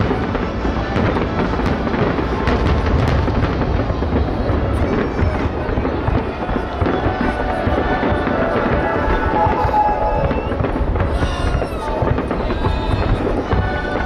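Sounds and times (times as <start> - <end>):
fireworks bangs and crackles: 0.0 - 14.0
fireworks booming rumble: 0.0 - 14.0.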